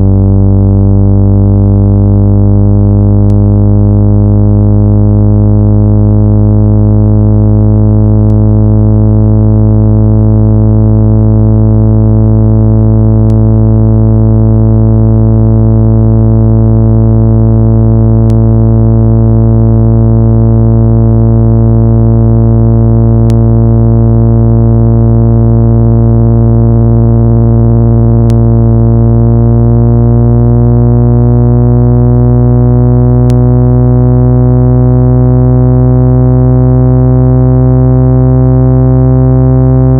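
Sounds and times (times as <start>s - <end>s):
loud electronic tone: 0.0s - 39.9s.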